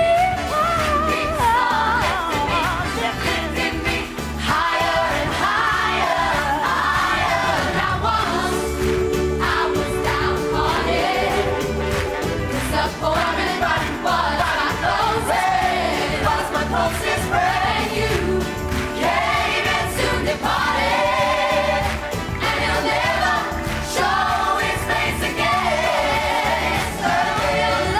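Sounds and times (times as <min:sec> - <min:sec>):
gospel choir singing: 0:00.3 - 0:27.9.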